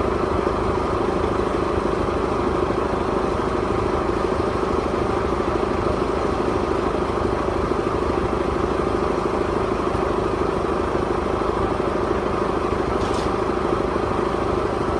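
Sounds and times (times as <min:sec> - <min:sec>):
engine running steadily: 0:00.0 - 0:14.9.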